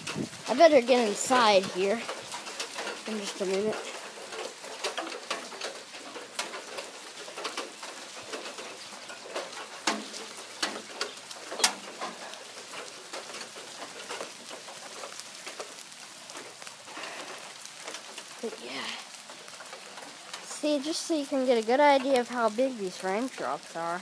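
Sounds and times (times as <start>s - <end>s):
light steady rain hiss: 0.0s - 24.0s
raindrops tapping: 0.0s - 24.0s.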